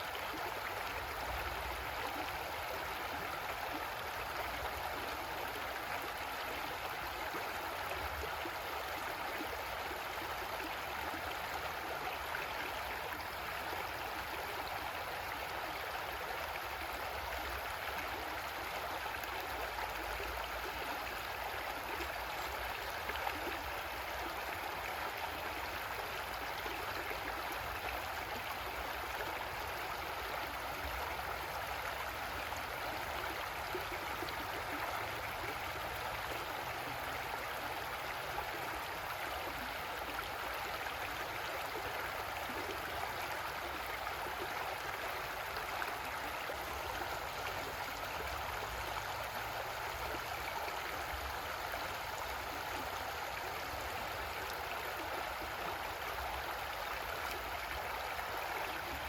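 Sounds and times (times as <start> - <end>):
creek water rushing over rocks: 0.0 - 59.0.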